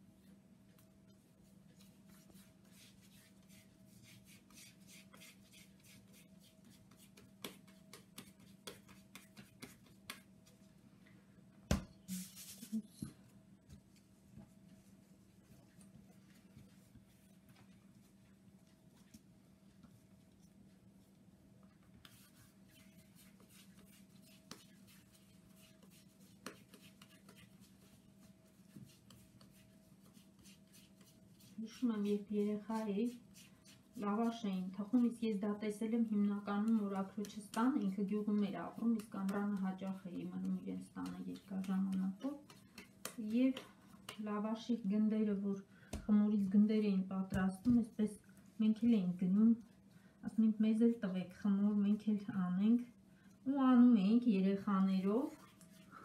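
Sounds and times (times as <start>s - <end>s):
hands rolling dough: 0.1s - 10.8s, 11.7s - 52.2s.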